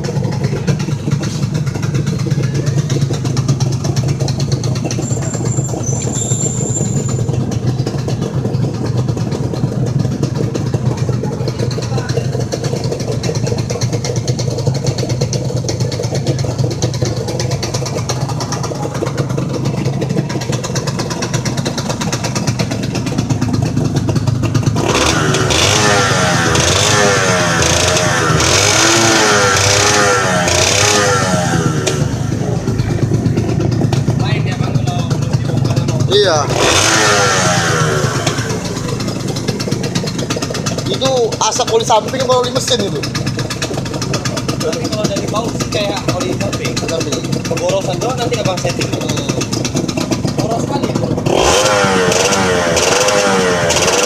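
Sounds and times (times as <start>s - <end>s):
engine revving: 0.0s - 54.0s
two-stroke engine idling: 0.0s - 54.0s.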